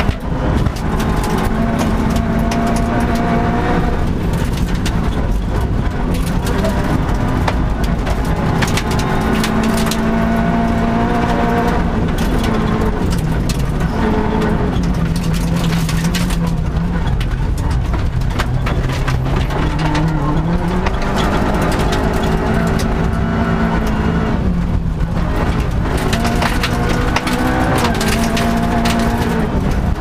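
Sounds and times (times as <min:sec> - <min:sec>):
car engine revving through gears: 0:00.0 - 0:30.0
gravel clattering against underside: 0:00.0 - 0:30.0.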